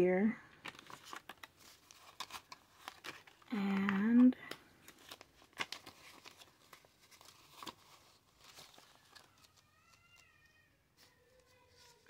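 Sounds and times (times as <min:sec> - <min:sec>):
paper money rustling: 0:00.6 - 0:10.4.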